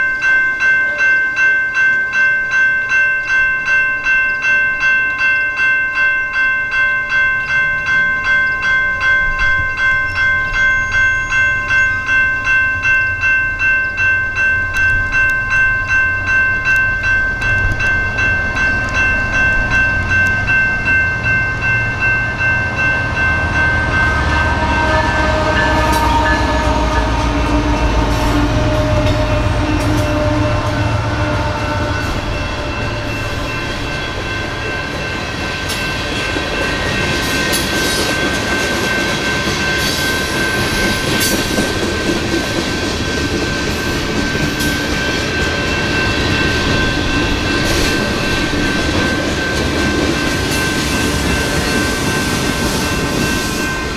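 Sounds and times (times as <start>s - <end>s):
railroad crossing bell ringing: 0.0s - 53.9s
train rumble and wheel clicks: 5.9s - 53.9s.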